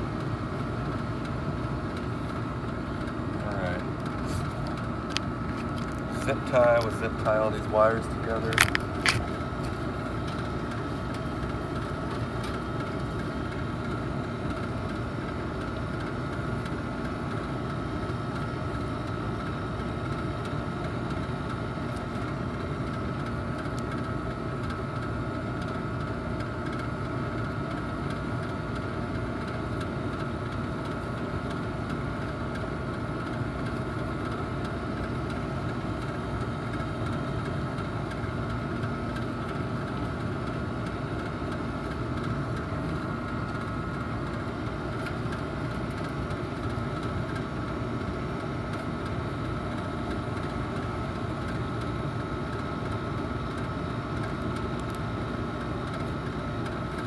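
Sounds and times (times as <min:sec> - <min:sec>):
air conditioner droning: 0:00.0 - 0:57.0.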